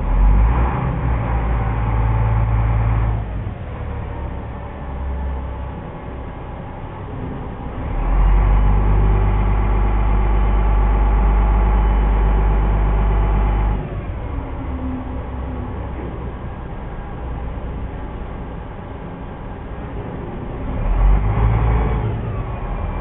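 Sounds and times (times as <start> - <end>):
diesel boat engine running: 0.0 - 23.0.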